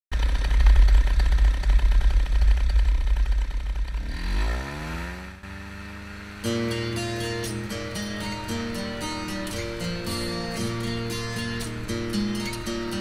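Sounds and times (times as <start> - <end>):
ride-on vehicle rumble and rattling: 0.1 - 13.0.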